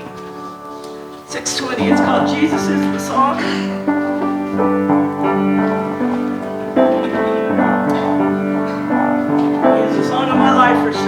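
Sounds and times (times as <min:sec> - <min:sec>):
keyboard playing worship song: 0:00.0 - 0:11.0.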